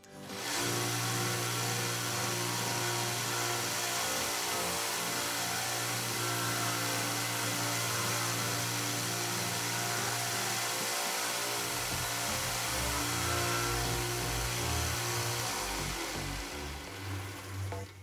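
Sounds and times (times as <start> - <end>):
belt sander running: 0.0 - 18.0.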